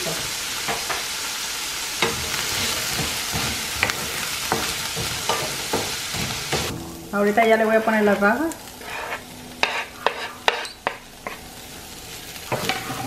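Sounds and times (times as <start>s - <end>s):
chickpeas sizzling in oil: 0.0s - 13.0s.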